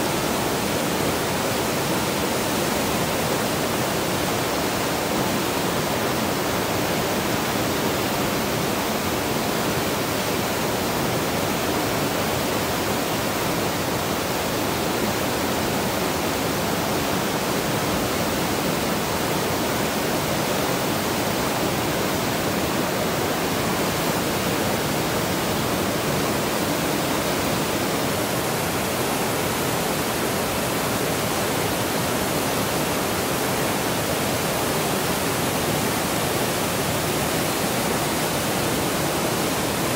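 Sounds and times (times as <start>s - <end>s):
river rapids churning over rocks: 0.0s - 39.9s.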